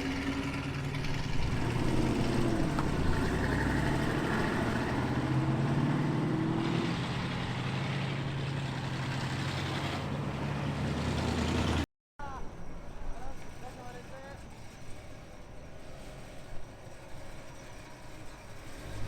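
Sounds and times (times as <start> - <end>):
car engine and exhaust: 0.0 - 11.9, 13.3 - 19.0.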